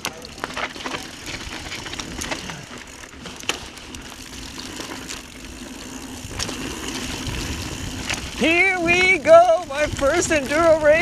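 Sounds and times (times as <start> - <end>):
bike clicks and rattles: 0.0 - 11.0
bike tyres rolling on dirt: 0.0 - 11.0.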